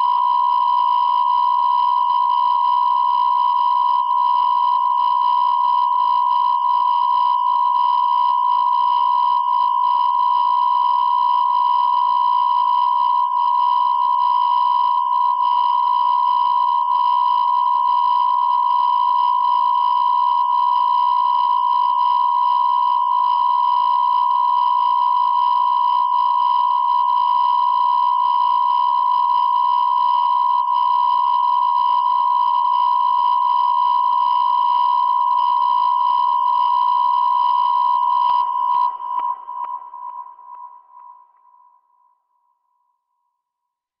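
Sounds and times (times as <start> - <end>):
steady electronic beep tone: 0.0 - 42.3.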